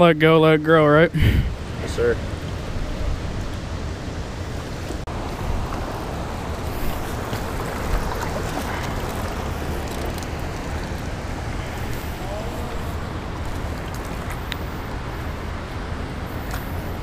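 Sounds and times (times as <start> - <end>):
creek water flowing: 0.0 - 17.0
wind buffeting microphone: 1.2 - 17.0.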